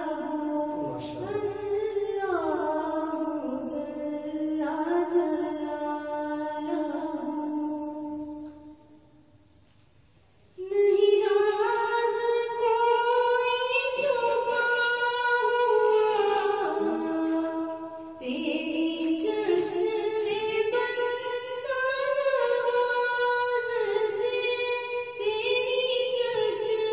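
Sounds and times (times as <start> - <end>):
girl singing unaccompanied: 0.0 - 9.0, 10.6 - 26.9.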